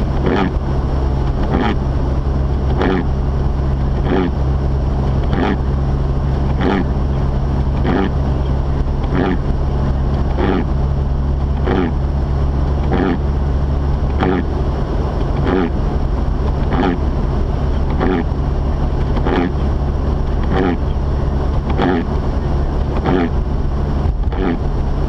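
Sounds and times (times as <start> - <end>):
windshield wipers swishing: 0.0 - 0.6, 1.2 - 1.8, 5.1 - 24.8
car engine droning: 0.0 - 25.0.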